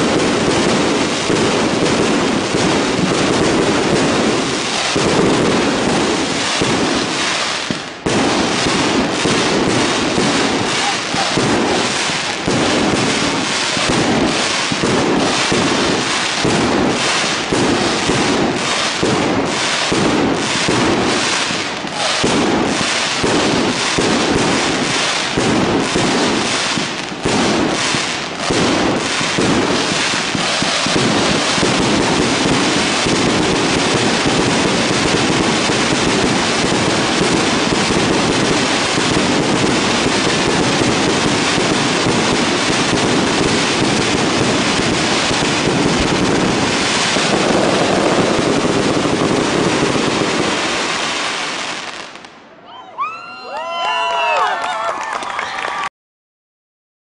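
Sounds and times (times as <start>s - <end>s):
fireworks cracking and banging: 0.0s - 52.6s.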